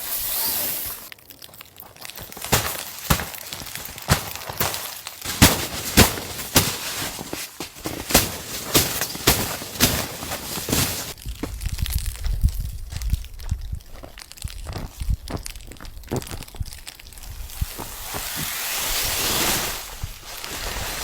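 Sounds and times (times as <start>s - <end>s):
footsteps crunching through snow: 0.0s - 21.0s.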